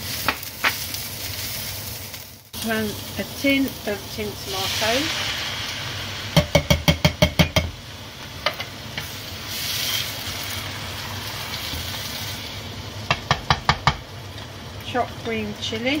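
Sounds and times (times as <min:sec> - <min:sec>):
tomatoes sizzling in a frying pan: 0:00.0 - 0:16.0.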